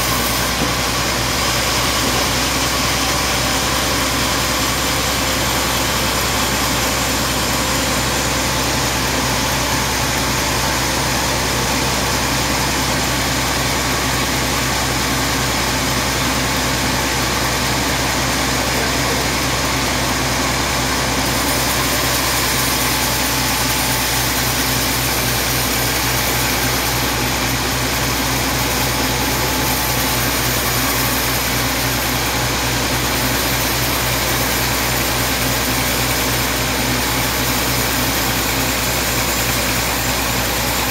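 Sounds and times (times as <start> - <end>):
band saw cutting a log: 0.0 - 40.9.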